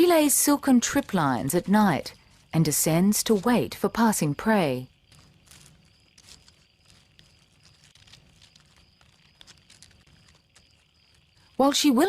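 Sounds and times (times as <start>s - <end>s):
soft ticks and rustles: 0.0s - 12.0s.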